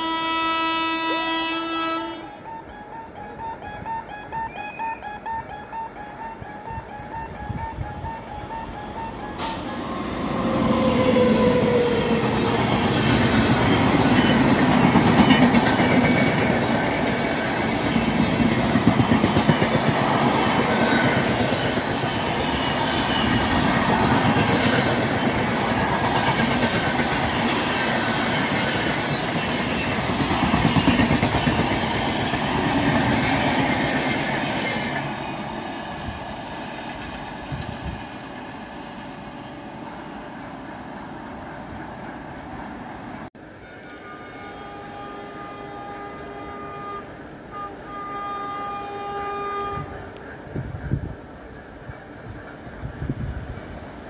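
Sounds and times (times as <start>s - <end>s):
train passing at speed: 0.0s - 54.0s.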